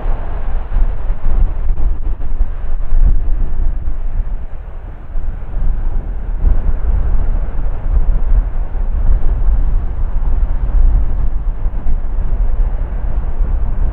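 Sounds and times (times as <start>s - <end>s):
jet engines deep rumble: 0.0s - 13.9s.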